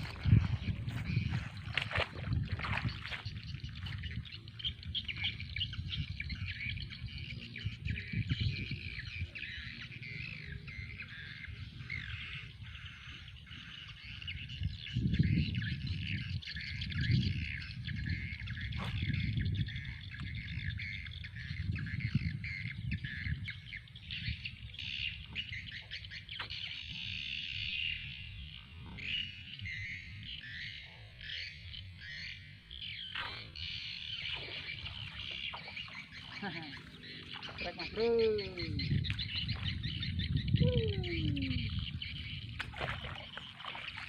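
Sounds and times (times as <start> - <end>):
birds chirping and calling: 0.0 - 44.0.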